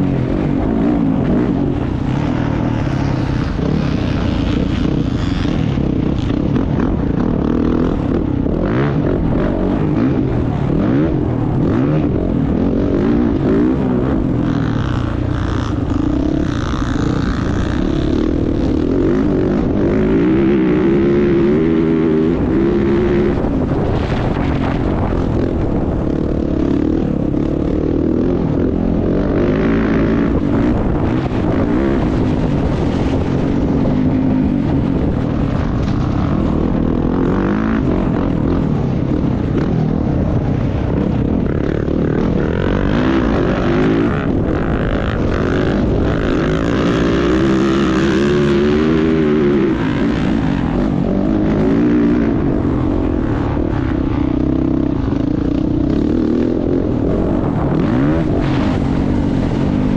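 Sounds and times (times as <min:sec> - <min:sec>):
motorcycle engine revving: 0:00.0 - 0:59.9
steady rushing noise: 0:00.0 - 0:59.9.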